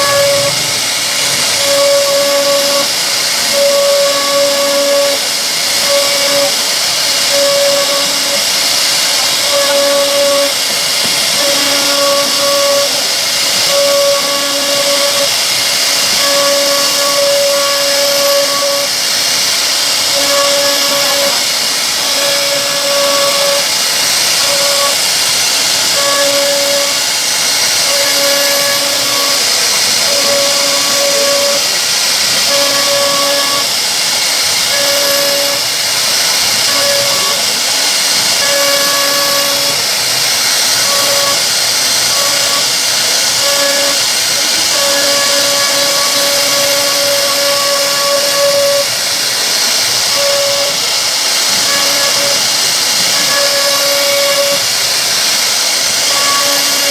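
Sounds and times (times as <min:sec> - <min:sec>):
cnc router spindle hiss: 0:00.0 - 0:56.9
pitched hum: 0:00.0 - 0:56.9.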